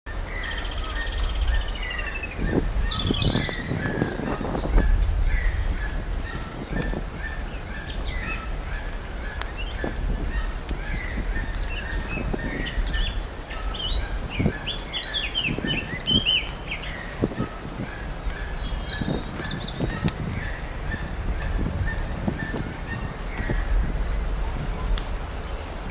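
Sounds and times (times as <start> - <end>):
high twittering calls: 0.1 - 25.4.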